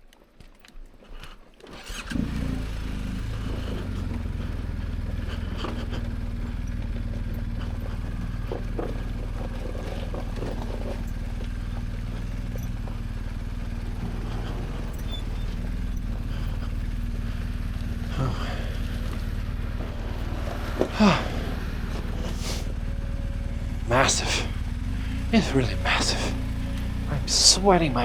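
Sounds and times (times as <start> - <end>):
motorcycle engine starting and idling: 1.6 - 28.0.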